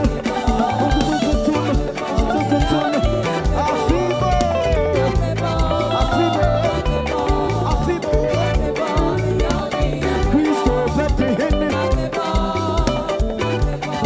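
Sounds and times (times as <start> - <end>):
live band gospel music: 0.0 - 14.0.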